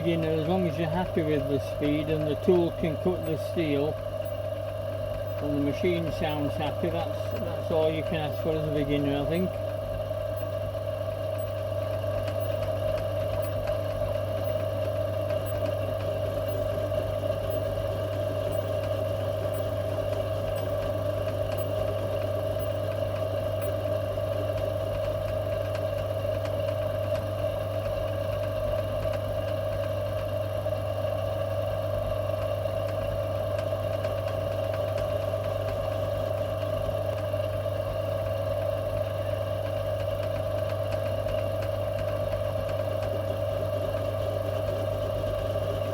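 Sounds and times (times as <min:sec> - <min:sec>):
lathe motor hum: 0:00.0 - 0:45.9.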